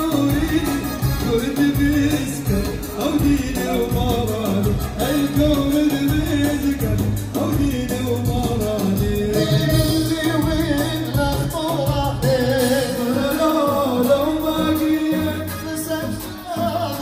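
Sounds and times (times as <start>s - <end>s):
instrumental backing with bass: 0.0s - 17.0s
person singing with ornamented voice: 0.0s - 17.0s.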